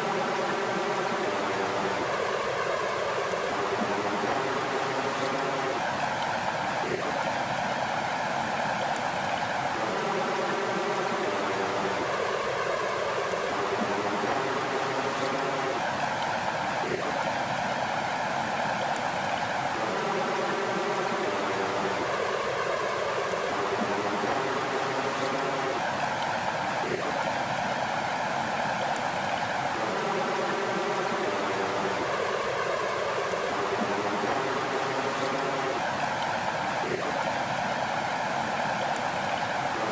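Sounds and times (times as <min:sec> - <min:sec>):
water rushing and burbling: 0:00.0 - 0:39.9.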